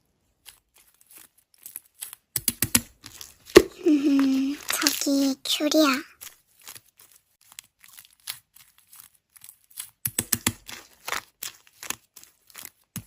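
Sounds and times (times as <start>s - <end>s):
slime squishing with sticky crackles: 0.1s - 13.0s.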